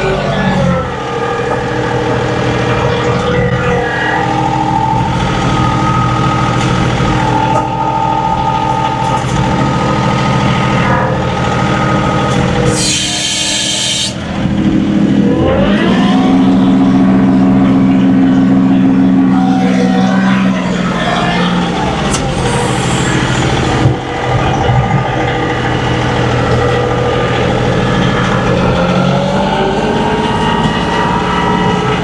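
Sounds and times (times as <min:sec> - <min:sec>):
diesel tractor engine running: 0:00.0 - 0:32.0
high whine: 0:00.0 - 0:32.0.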